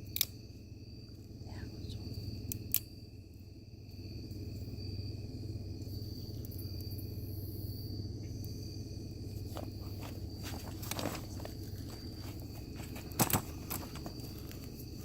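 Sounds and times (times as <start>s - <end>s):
crickets trilling: 0.0s - 15.0s
steady low hum: 0.0s - 15.0s.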